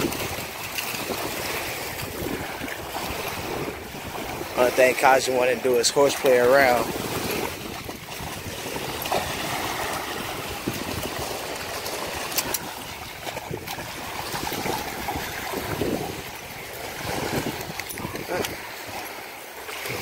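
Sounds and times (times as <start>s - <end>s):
small waves on sandy shore: 0.0s - 20.0s
wind on microphone: 0.0s - 20.0s.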